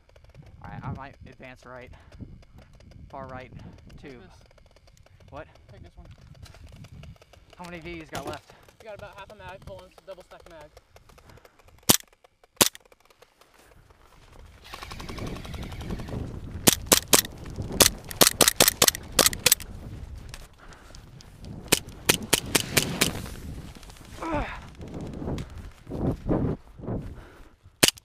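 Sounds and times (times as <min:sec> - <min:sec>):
rapid airsoft fire rattle: 0:00.0 - 0:19.7, 0:20.3 - 0:25.6, 0:27.8 - 0:28.0.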